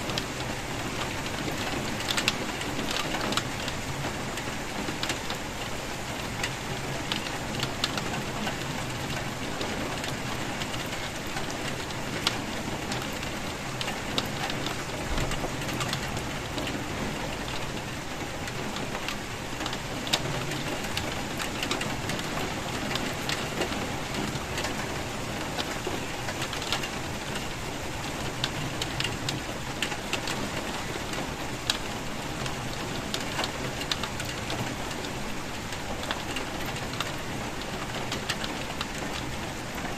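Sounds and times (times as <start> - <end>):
raindrops tapping: 0.0 - 39.9
steady rain hiss: 0.0 - 39.9.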